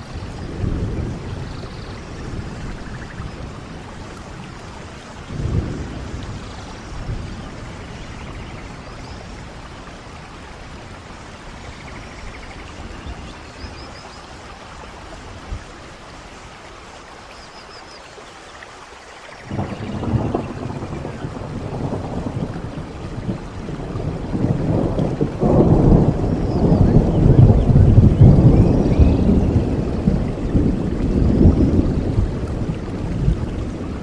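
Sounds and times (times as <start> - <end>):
low rumbles of thunder: 0.0 - 16.6, 19.4 - 34.0
steady rain falling: 0.0 - 34.0.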